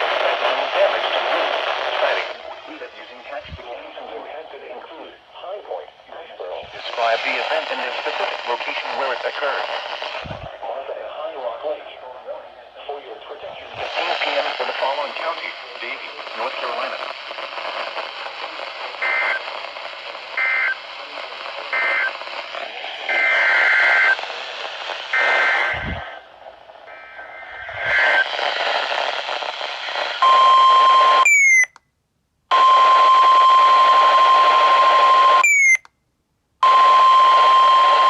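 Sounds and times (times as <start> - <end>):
radio static: 0.0 - 31.4, 32.5 - 35.5, 36.7 - 38.0.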